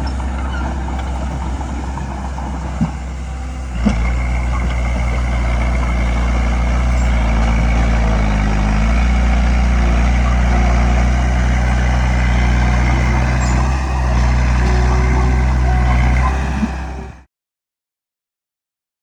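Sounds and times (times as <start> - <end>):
bulldozer diesel engine running: 0.0 - 17.3.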